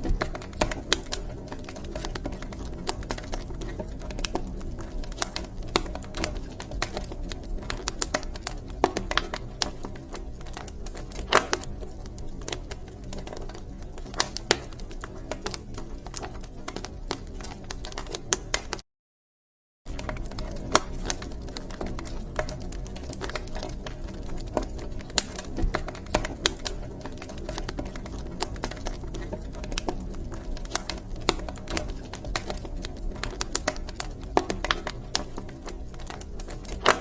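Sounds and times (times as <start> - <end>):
wood fire crackling and popping: 0.0 - 18.8, 19.9 - 37.0.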